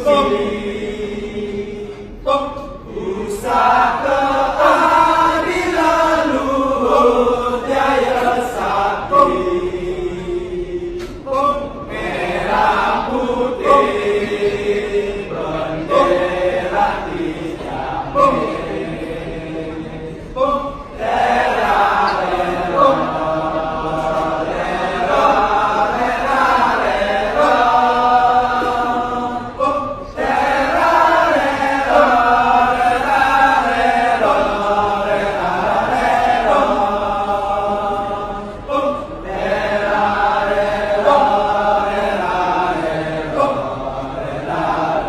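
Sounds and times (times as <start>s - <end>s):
group of voices chanting: 0.0s - 45.0s.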